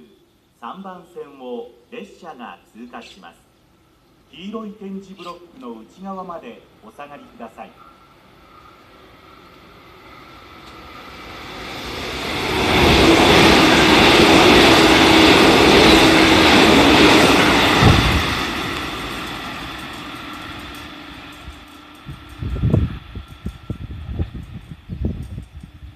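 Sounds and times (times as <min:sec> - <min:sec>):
electric train passing with low hum: 0:00.0 - 0:25.9.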